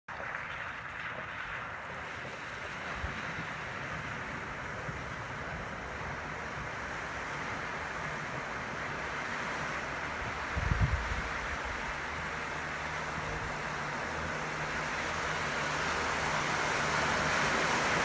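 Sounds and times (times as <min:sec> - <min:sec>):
flowing river water: 0:00.1 - 0:18.0
wind buffeting microphone: 0:00.2 - 0:18.0.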